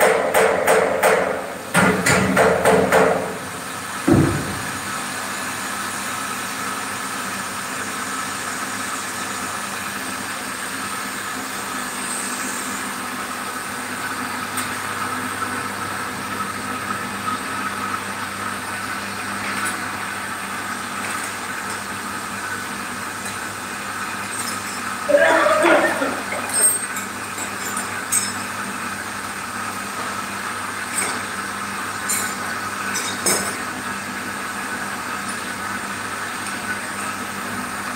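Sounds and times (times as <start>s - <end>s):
water pump humming: 0.0s - 37.9s.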